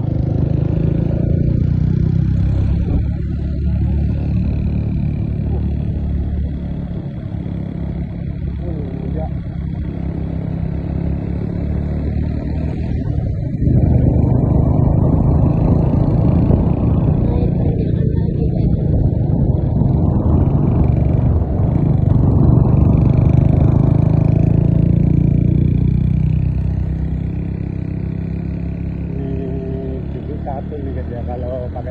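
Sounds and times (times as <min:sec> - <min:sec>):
vehicle engine running: 0:00.0 - 0:31.9.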